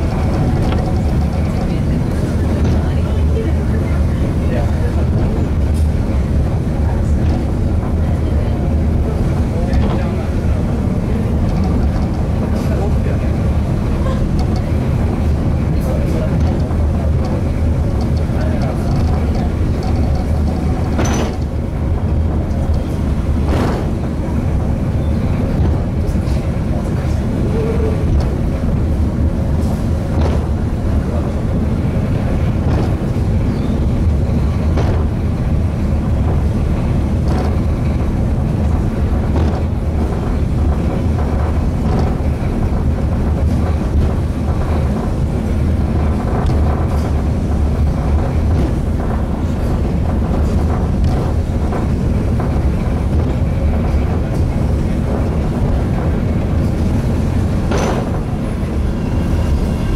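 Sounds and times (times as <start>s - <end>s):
cable car wheels rumbling on rails: 0.0s - 59.9s.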